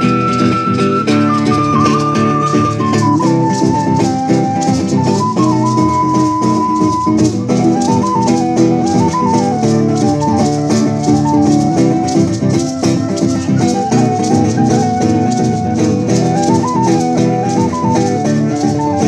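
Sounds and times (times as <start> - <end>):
maraca shaking: 0.0 - 19.0
recorder melody: 0.0 - 19.0
strummed acoustic guitar: 0.0 - 19.0.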